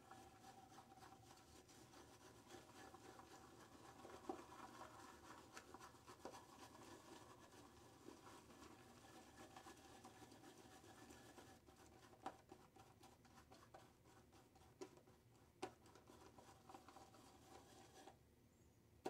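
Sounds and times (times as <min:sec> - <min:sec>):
brush tapping bowl: 0:00.0 - 0:18.2.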